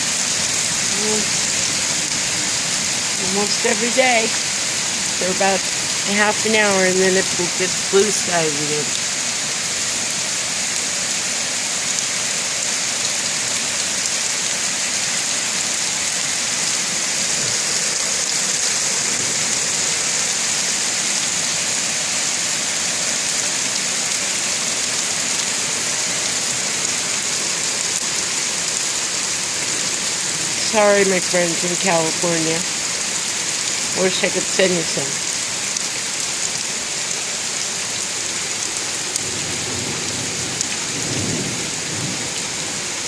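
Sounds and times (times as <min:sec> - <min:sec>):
rain hissing steadily: 0:00.0 - 0:43.0.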